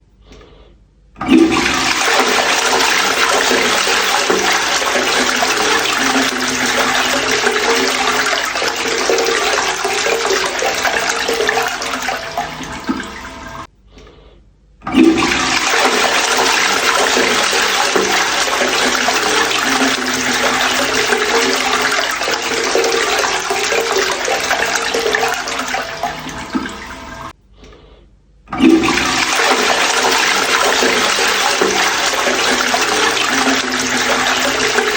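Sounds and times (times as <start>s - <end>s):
toilet flushing: 1.2s - 13.7s, 14.8s - 27.4s, 28.5s - 34.9s.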